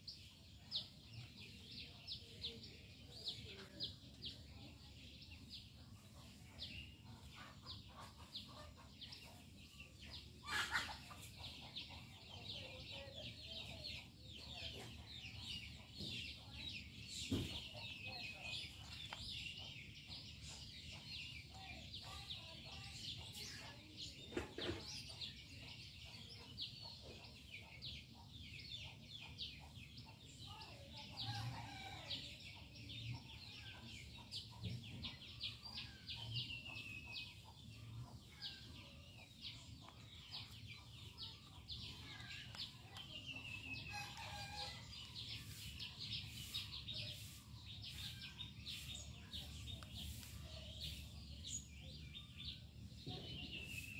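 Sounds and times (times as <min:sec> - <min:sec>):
small birds chirping: 0:00.0 - 0:53.9
chickens clucking: 0:00.1 - 0:53.9.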